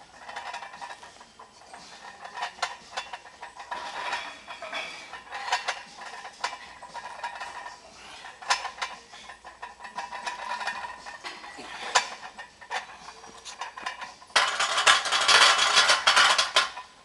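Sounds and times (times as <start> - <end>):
weight plates clanking: 0.0 - 17.0.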